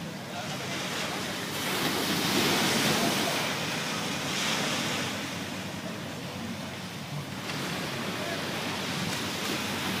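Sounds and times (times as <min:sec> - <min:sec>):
sea water rushing and splashing: 0:00.0 - 0:10.0.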